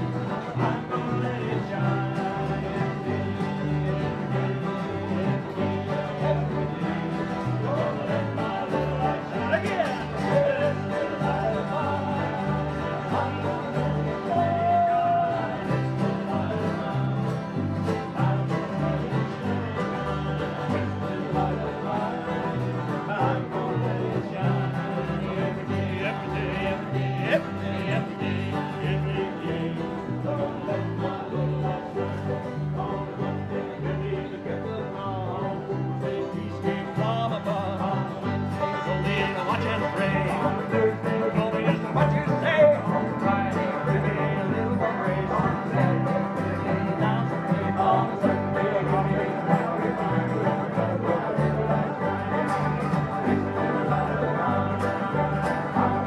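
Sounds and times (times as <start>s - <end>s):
banjo: 0.0s - 56.0s
bass guitar line: 0.0s - 56.0s
men singing together: 0.0s - 56.0s
strummed acoustic guitars: 0.0s - 56.0s.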